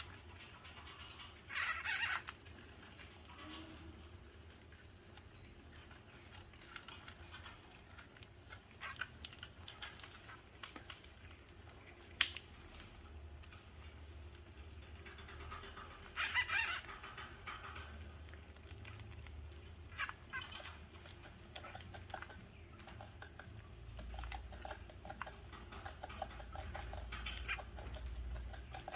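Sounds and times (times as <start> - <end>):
hamsters squeaking and chattering: 0.0 - 28.9.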